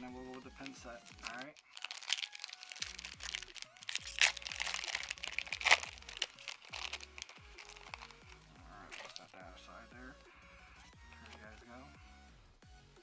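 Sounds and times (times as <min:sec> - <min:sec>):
foil wrapper ripping: 0:00.0 - 0:09.5, 0:10.1 - 0:11.7
foil wrapper crinkling: 0:00.0 - 0:11.9.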